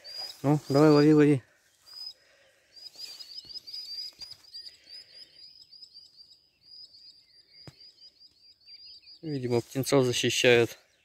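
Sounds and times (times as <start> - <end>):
birds alarm chirps: 0.0 - 11.0.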